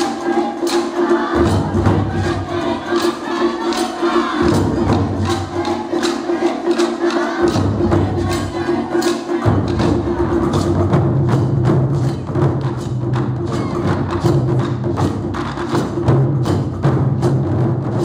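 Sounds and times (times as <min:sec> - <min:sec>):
ensemble drumming on barrel drums: 0:00.0 - 0:18.0.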